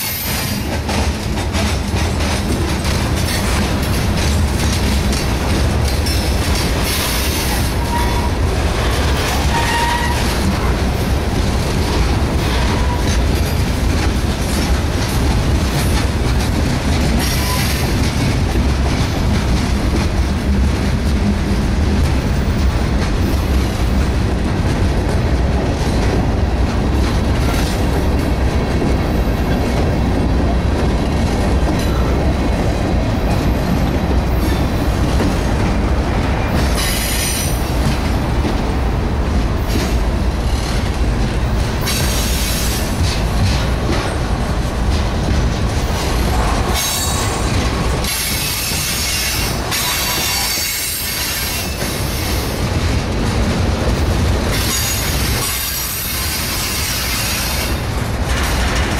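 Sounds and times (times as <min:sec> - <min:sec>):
train cars rumbling: 0:00.0 - 0:58.9
wheels clacking over rail joints: 0:00.0 - 0:58.9.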